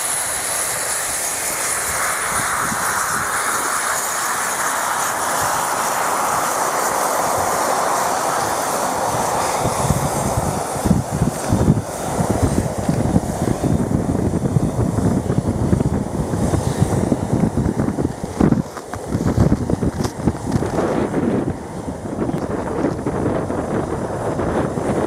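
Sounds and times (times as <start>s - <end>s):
jet engines rumbling: 0.0s - 25.0s
wind buffeting microphone: 0.0s - 25.0s.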